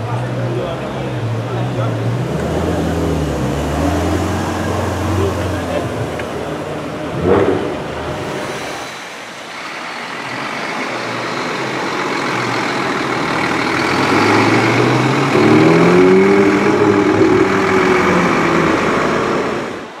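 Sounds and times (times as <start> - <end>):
car engine at low speed: 0.0 - 20.0.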